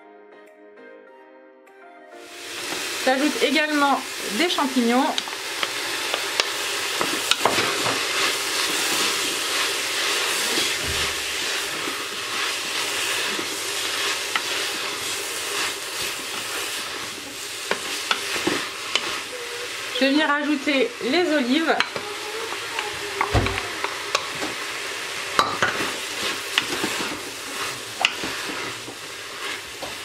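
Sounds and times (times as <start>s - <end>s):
vegetables sizzling in hot oil: 2.2s - 30.0s.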